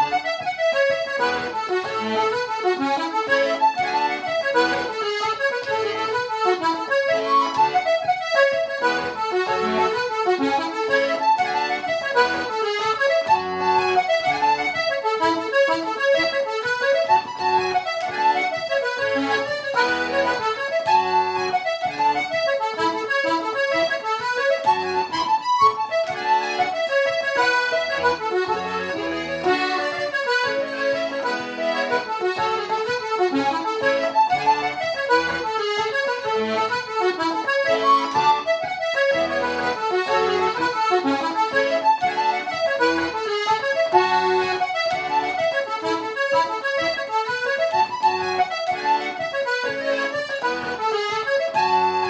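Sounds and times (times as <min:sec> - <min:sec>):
button accordion playing a jig: 0:00.0 - 0:52.0.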